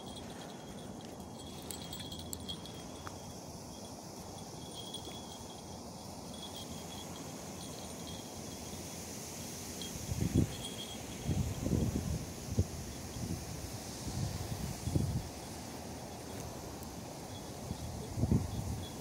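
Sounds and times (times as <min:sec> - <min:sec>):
insects trilling: 0:00.0 - 0:19.0
outdoor background hiss: 0:00.0 - 0:19.0.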